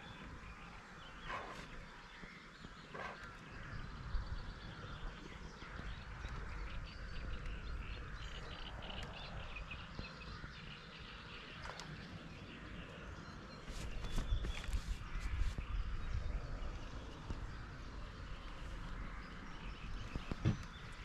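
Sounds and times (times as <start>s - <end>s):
small birds chirping: 0.0s - 21.0s
wind rumble on microphone: 0.0s - 21.0s.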